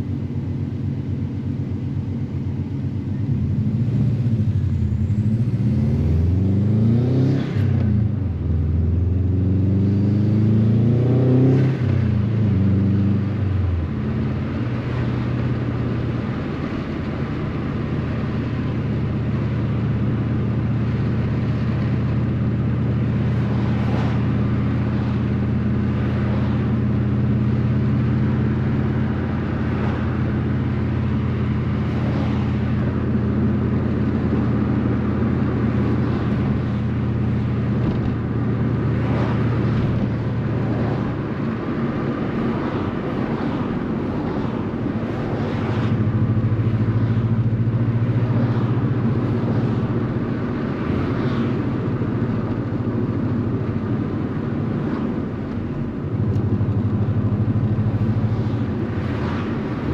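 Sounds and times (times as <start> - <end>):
car engine accelerating: 2.2 - 59.9.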